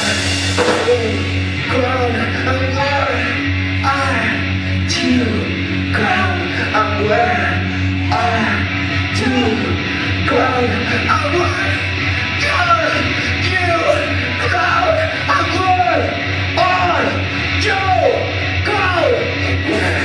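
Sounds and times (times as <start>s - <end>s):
live rock band playing: 0.0s - 20.0s
singer's voice: 0.0s - 20.0s.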